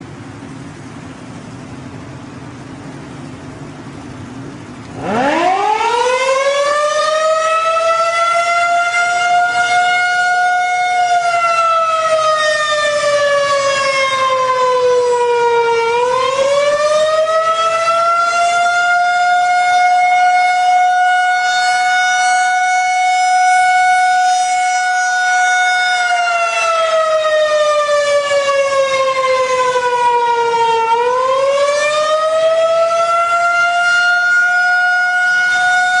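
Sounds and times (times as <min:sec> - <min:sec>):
air-raid siren: 0:00.0 - 0:36.0.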